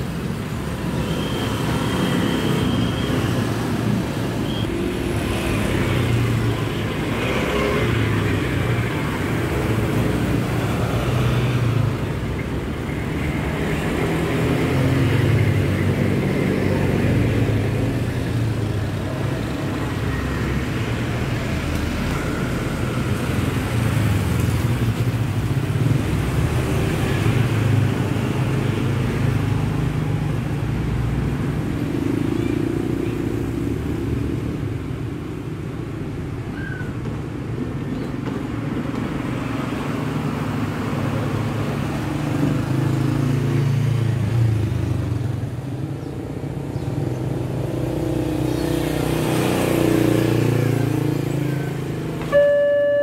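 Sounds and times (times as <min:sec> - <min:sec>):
motorbikes passing: 0:00.0 - 0:53.0.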